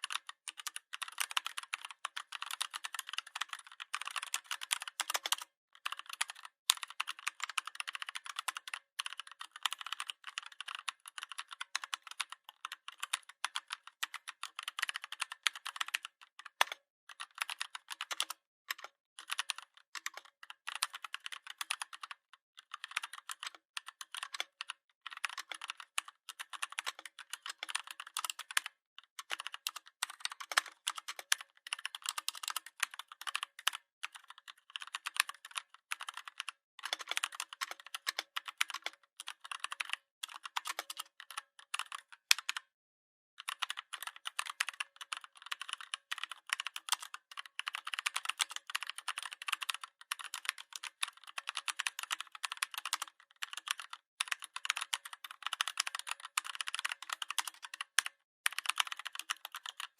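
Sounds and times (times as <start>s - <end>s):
fast keyboard typing: 0.0s - 42.7s, 43.4s - 59.9s.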